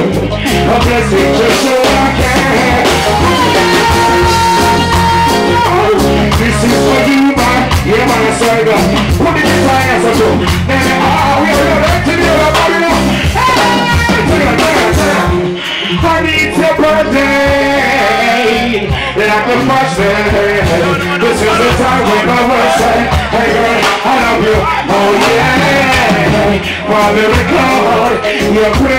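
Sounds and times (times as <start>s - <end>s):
live reggae band playing: 0.0s - 28.9s
man singing into microphone: 0.0s - 28.9s
pulsing bass line: 0.0s - 28.9s.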